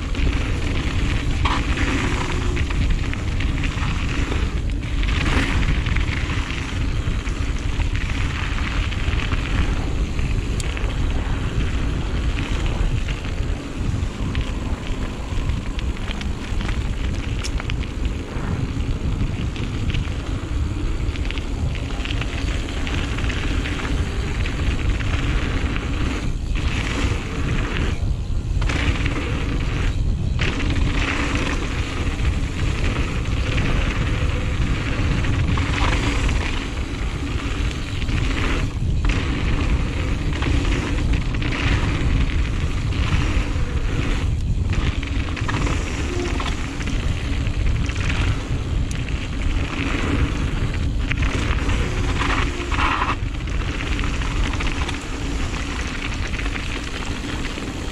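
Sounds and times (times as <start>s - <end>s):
bike rattling: 0.0s - 57.9s
bike tyres on dirt trail: 0.0s - 57.9s
wind rumble on microphone: 0.0s - 57.9s.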